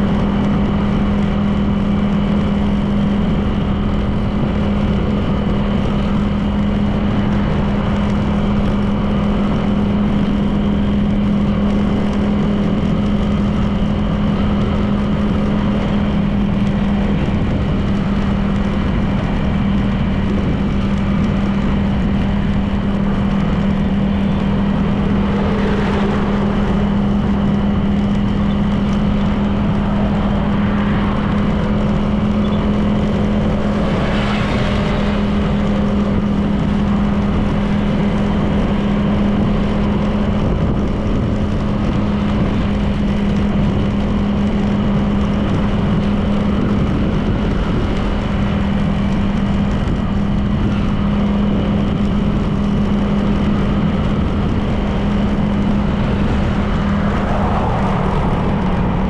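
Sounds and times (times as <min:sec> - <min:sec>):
road and wind noise: 0:00.0 - 0:59.0
scooter engine cruising: 0:00.0 - 0:59.0.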